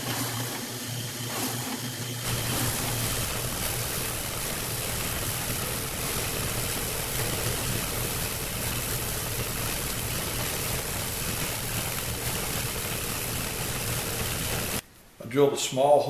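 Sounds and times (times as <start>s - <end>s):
disc sander sanding wood: 0.0s - 14.8s.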